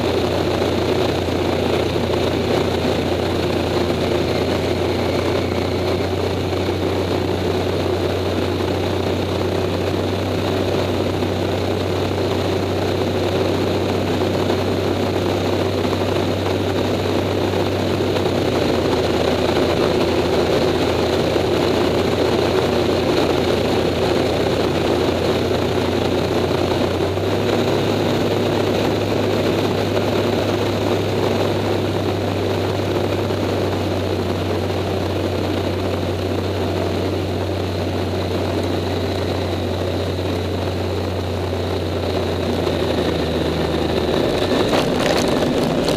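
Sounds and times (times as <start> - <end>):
propeller plane engine running: 0.0 - 45.9
rush of airflow: 0.0 - 45.9.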